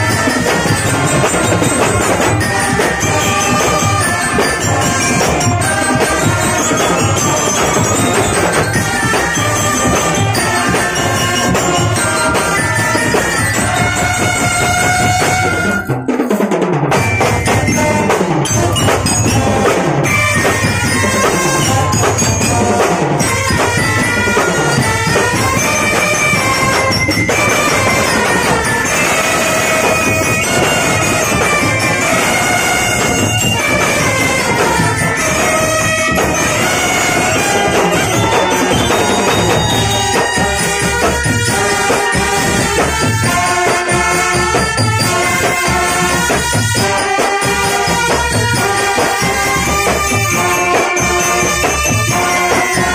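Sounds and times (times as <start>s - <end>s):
drums: 0.0s - 52.9s
marching brass band playing: 0.0s - 52.9s.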